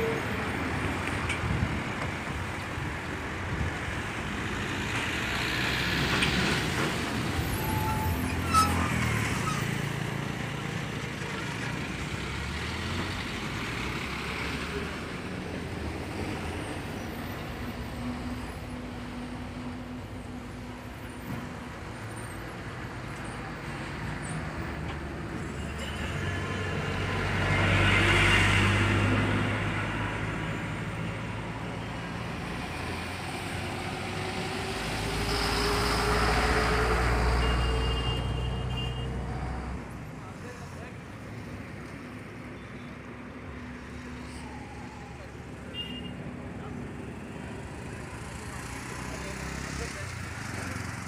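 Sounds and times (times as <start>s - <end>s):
diesel vehicle engines rumbling: 0.0s - 51.0s.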